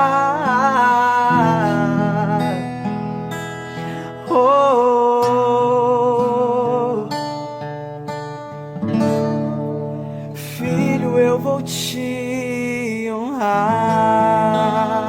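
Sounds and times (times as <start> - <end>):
worship song with acoustic guitar: 0.0 - 15.0.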